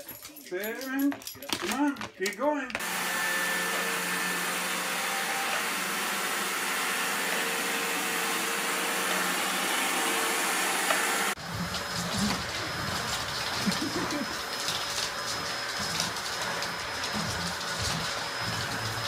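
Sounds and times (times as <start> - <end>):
robot vacuum cleaner running: 2.8 - 19.0.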